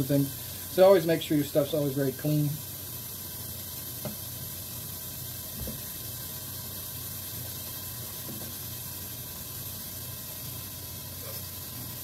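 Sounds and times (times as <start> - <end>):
bacon sizzling in pan: 0.0 - 12.0.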